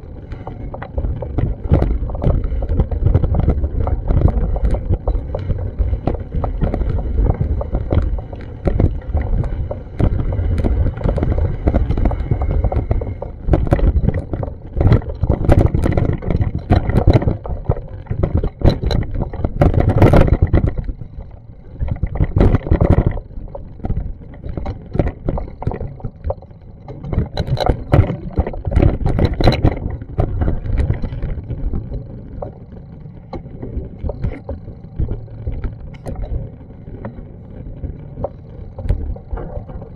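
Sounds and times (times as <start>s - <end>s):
wind buffeting microphone: 0.0s - 39.9s
knocks and clicks: 0.3s - 37.2s.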